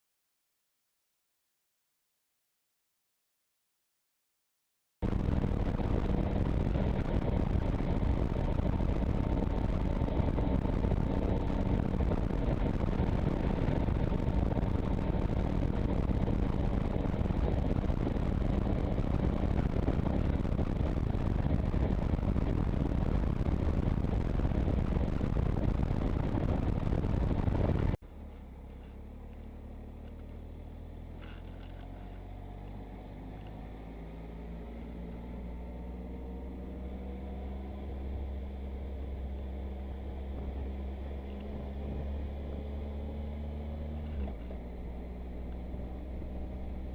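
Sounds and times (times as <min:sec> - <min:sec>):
motorcycle engine: 0:05.0 - 0:46.9
wind and road noise: 0:05.0 - 0:46.9.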